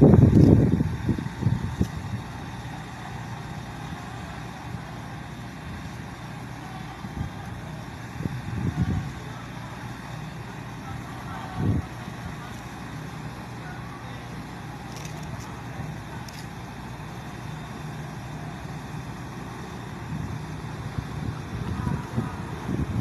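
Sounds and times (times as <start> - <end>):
diesel railcar engine idling: 0.0 - 23.0
low rumbles: 0.0 - 23.0.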